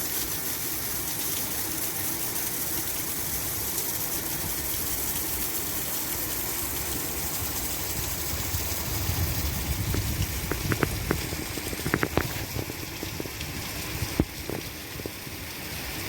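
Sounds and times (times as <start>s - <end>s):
heavy rain: 0.0s - 16.0s
running water: 0.0s - 16.0s.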